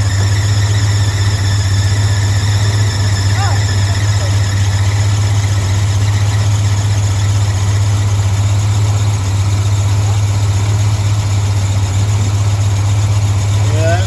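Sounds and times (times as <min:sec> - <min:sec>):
pickup engine running: 0:00.0 - 0:14.0.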